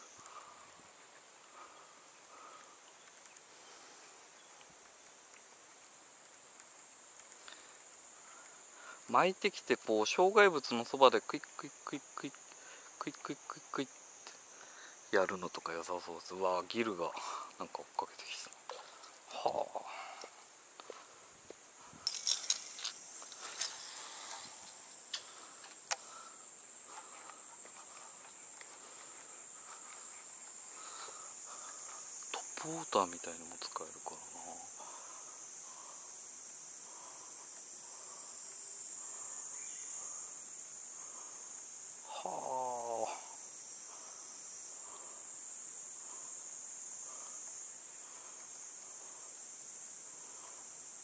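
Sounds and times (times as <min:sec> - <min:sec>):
insect chorus drone: 0:00.0 - 0:51.0.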